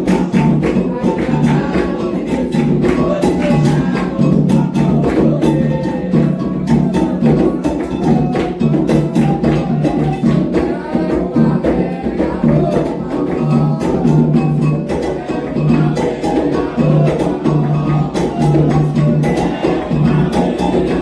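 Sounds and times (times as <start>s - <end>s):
hand drums playing: 0.0s - 21.0s
voices singing: 0.0s - 21.0s.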